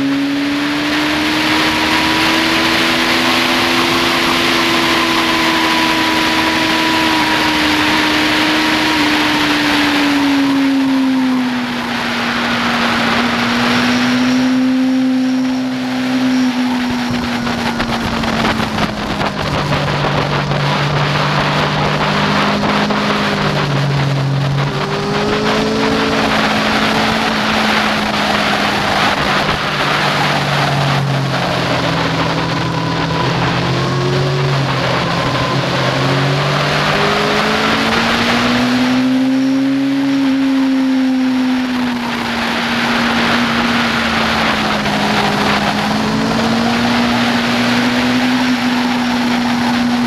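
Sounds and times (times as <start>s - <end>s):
motorcycle engine at speed: 0.0s - 50.0s
wind rushing over microphone: 0.0s - 50.0s.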